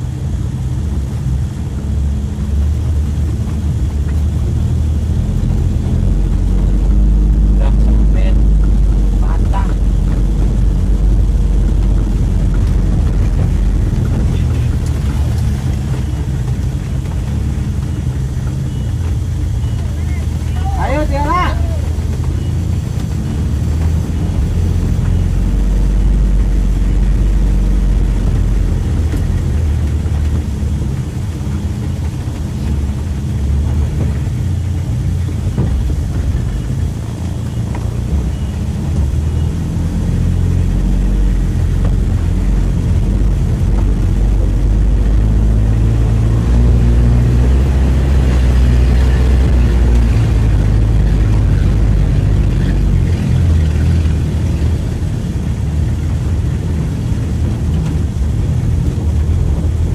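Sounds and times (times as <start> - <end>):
pickup engine running: 0.0 - 59.9.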